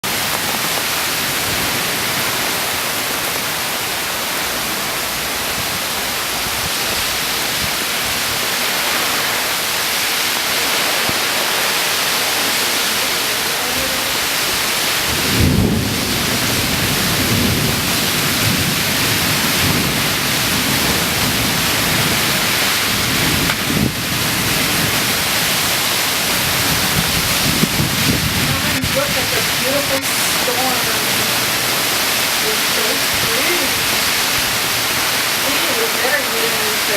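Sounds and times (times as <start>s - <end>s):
heavy rain pouring: 0.0s - 36.9s
low gusty wind rumble: 0.0s - 36.9s.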